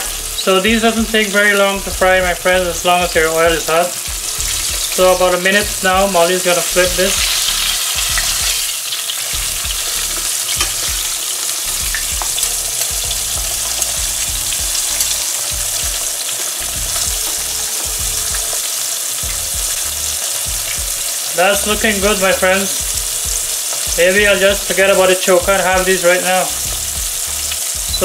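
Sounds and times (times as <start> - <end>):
fish frying in oil: 0.0 - 28.0.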